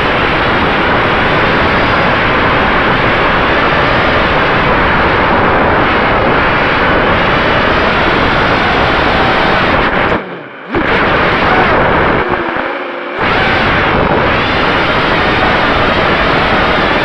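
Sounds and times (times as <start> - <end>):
quadcopter motors running: 0.0 - 17.0
wind buffeting microphone: 0.0 - 17.0.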